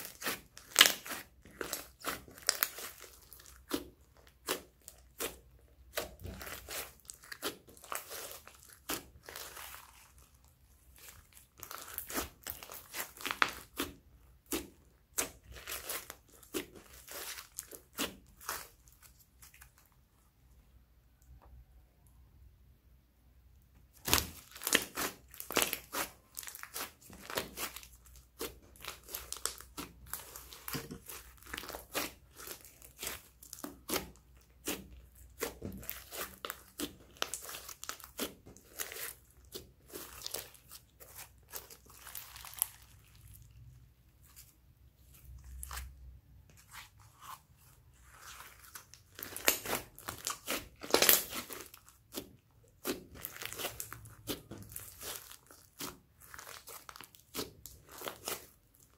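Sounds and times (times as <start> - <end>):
slime crackling and popping: 0.0 - 19.9, 23.9 - 58.9.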